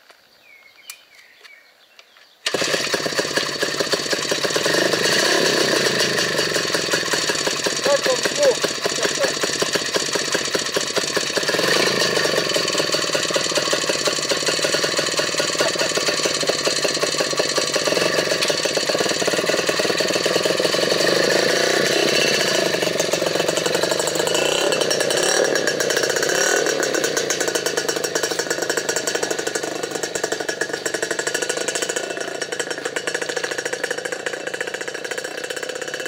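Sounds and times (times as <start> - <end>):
motorcycle engine running: 2.5 - 36.0.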